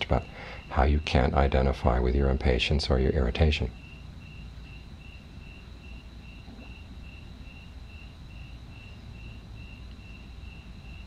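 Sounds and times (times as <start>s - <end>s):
cricket chirping: 0.0s - 11.0s
high insect drone: 0.0s - 11.0s
low background hum: 0.0s - 11.0s.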